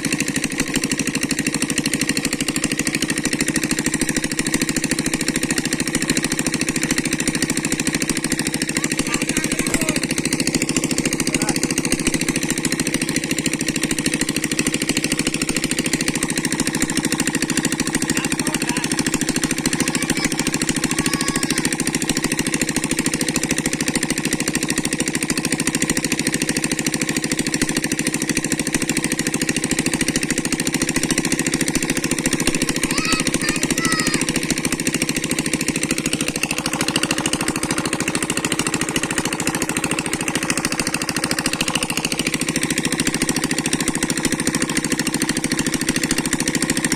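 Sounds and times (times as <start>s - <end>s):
small engine chugging: 0.0s - 46.9s.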